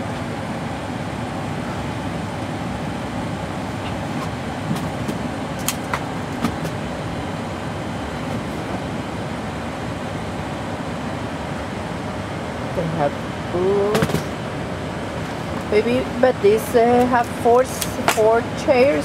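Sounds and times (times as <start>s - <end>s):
air conditioning rushing air: 0.0s - 19.0s.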